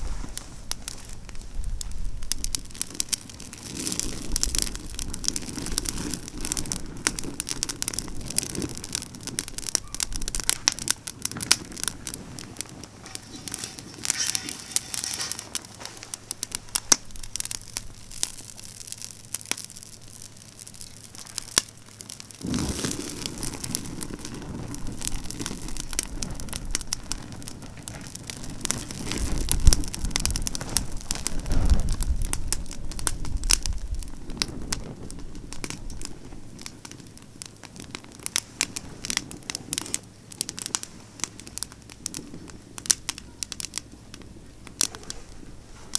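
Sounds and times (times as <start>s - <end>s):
campfire crackling and popping: 0.3s - 45.9s.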